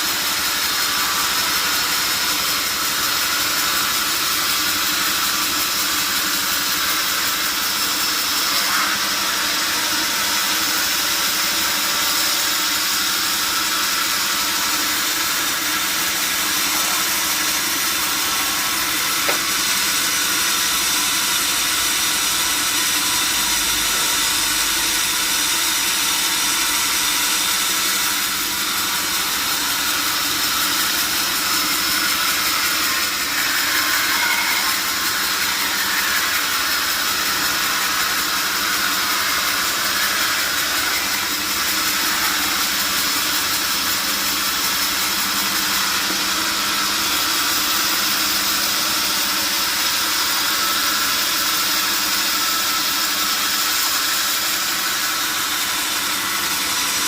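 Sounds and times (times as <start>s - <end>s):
high-pitched sawmill saw: 0.0s - 57.0s.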